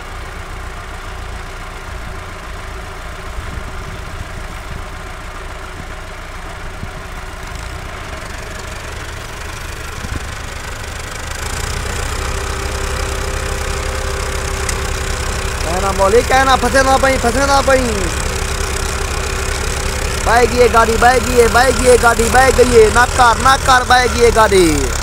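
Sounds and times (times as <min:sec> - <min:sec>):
tractor diesel engine labouring: 0:00.0 - 0:25.0.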